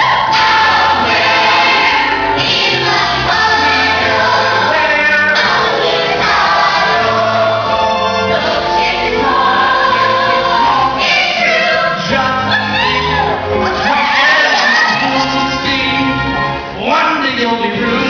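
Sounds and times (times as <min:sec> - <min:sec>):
chorus singing: 0:00.0 - 0:18.0
instrumental accompaniment: 0:00.0 - 0:18.0.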